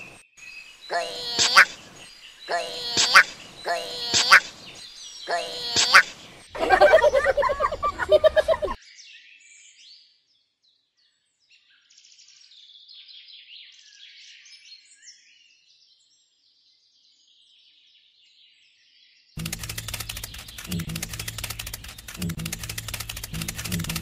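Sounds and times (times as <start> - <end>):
small birds chirping and twittering: 0.0 - 24.0.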